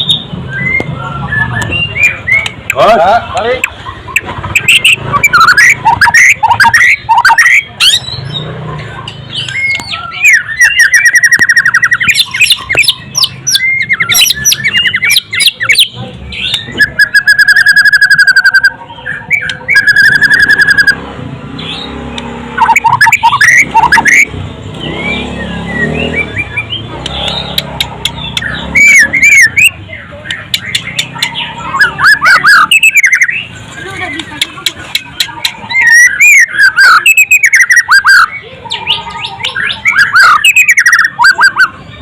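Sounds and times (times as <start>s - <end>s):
bird singing whistles and trills: 0.0s - 2.7s, 3.8s - 8.5s, 9.3s - 21.0s, 21.6s - 33.6s, 34.7s - 41.9s.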